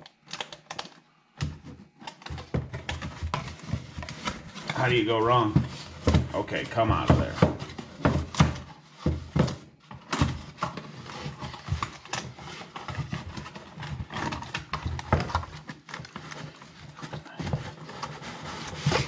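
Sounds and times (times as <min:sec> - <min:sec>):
cardboard sliding and rustling: 0:01.8 - 0:19.0.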